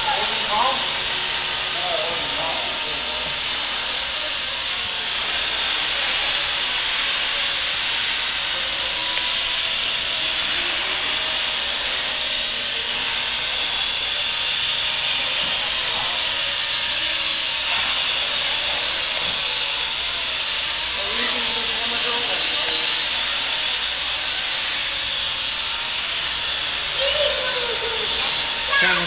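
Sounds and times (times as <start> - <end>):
rc helicopter rotors whirring: 0.0 - 29.0.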